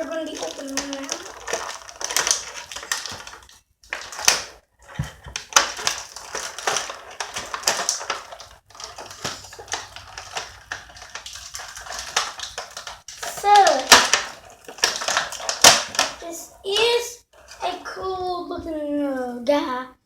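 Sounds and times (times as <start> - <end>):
plastic packaging crinkling: 0.0 - 17.7.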